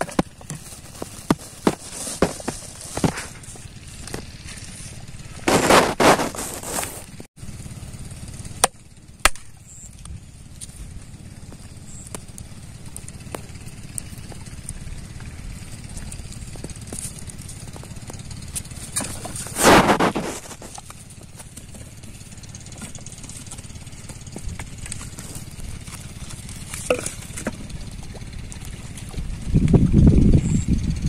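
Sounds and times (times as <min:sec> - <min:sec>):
hands crunching dry soil: 0:00.0 - 0:07.3, 0:08.4 - 0:30.0
low background rumble: 0:00.0 - 0:31.0.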